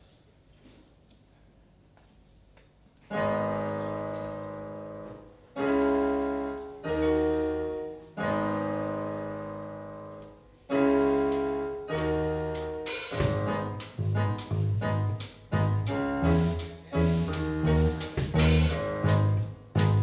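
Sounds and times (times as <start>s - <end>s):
keyboard playing slow piano chords: 3.1s - 20.0s.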